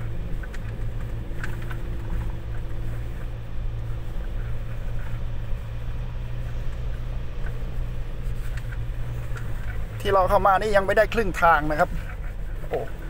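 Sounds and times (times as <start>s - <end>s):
light rattles: 0.0s - 13.0s
pickup engine and road drone: 0.0s - 13.0s.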